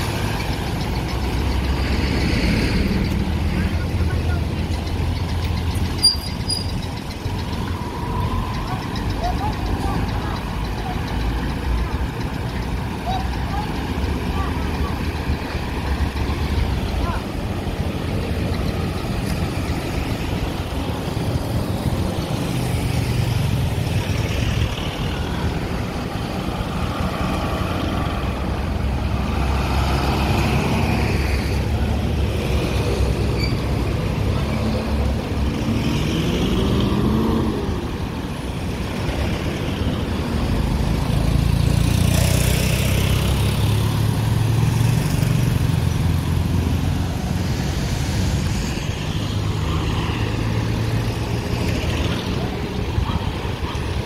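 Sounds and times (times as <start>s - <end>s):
diesel truck engine rumbling: 0.0s - 54.0s
road traffic passing: 0.0s - 54.0s
vehicle accelerating: 0.0s - 54.0s.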